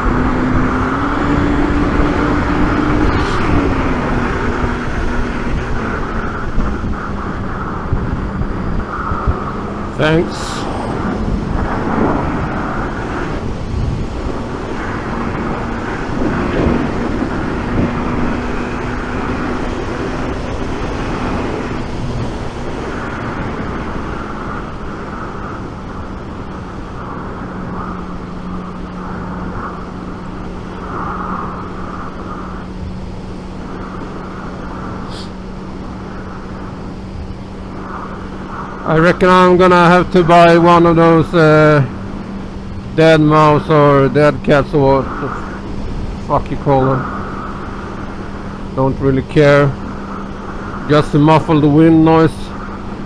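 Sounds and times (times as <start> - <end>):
motorcycle engine hum: 0.0 - 53.0
wind rushing over microphone: 0.0 - 53.0.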